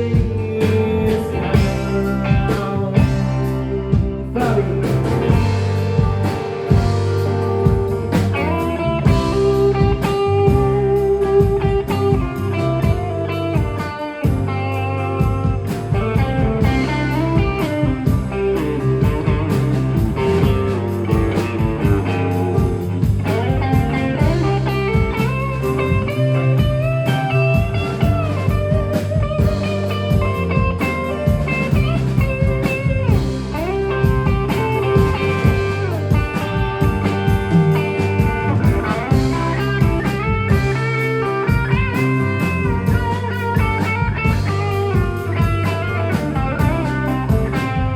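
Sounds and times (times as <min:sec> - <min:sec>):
lead guitar with bent notes: 0:00.0 - 0:47.9
live band playing: 0:00.0 - 0:47.9.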